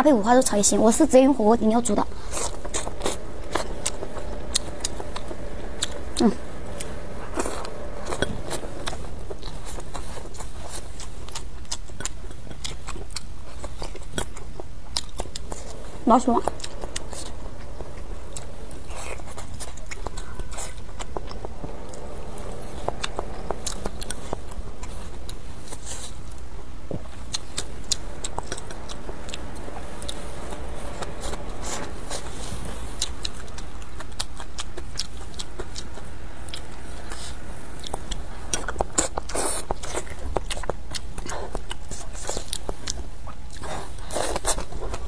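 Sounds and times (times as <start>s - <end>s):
low steady hum: 0.0s - 45.0s
chewing and biting food: 1.8s - 45.0s.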